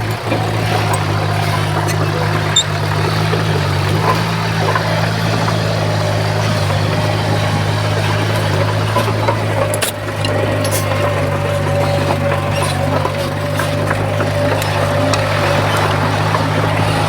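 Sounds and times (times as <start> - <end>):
diesel engine droning: 0.0 - 17.0
sharp clanks: 0.0 - 17.0.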